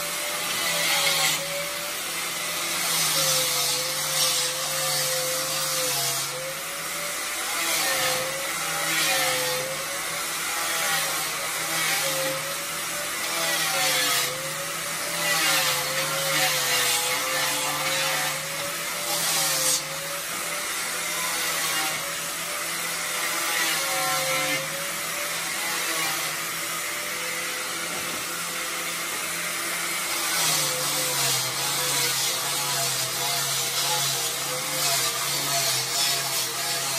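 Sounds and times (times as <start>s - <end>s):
power tool cutting wood: 0.0s - 36.9s.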